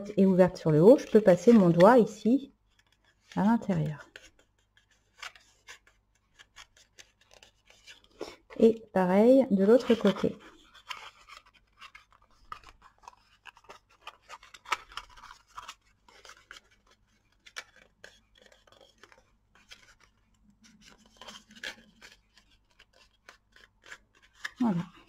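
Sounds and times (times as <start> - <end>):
cardstock scratching and crackling: 0.2 - 8.7, 9.5 - 25.0.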